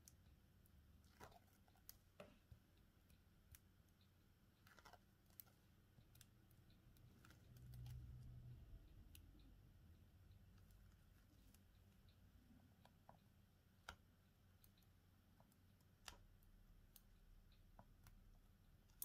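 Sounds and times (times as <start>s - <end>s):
small clicks and taps: 0.0s - 19.0s.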